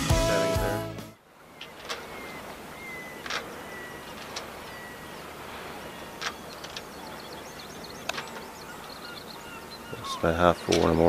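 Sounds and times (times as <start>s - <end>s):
steady background hiss: 1.2s - 11.0s
bird calls: 1.4s - 11.0s.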